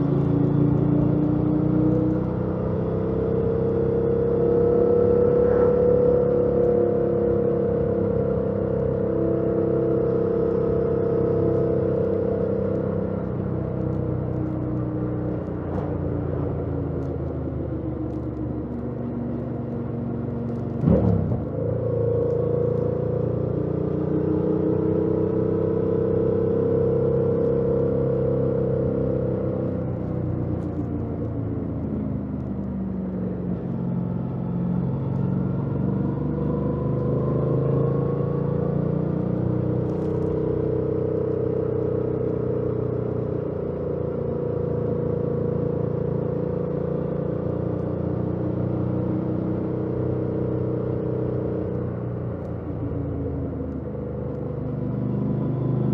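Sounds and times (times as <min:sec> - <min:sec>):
road noise: 0:00.0 - 0:55.9.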